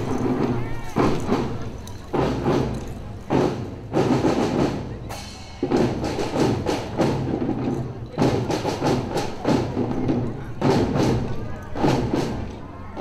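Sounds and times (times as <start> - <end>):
marching band drums: 0.0 - 13.0.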